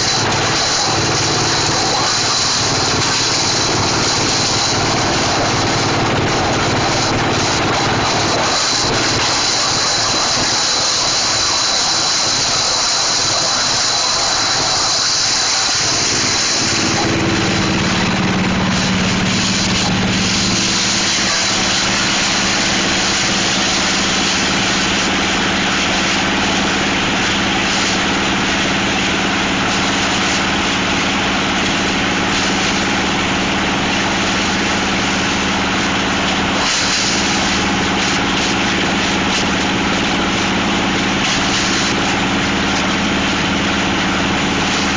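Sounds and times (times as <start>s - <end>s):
plastic shredder running: 0.0s - 44.9s
steady low hum: 0.0s - 44.9s.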